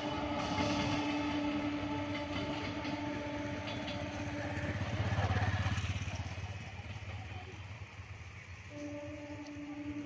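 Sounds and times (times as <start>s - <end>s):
train humming tone: 0.0s - 10.0s
train wheels rumbling on rails: 0.0s - 10.0s.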